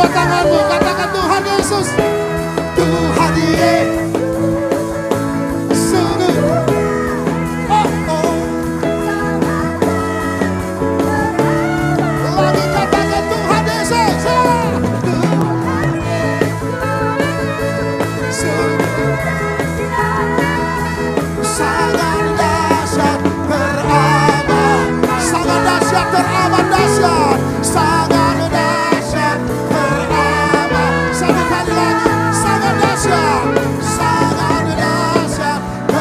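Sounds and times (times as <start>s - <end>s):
bass guitar: 0.0s - 36.0s
drums with steady beat: 0.0s - 36.0s
electric guitar lead lines: 0.0s - 36.0s.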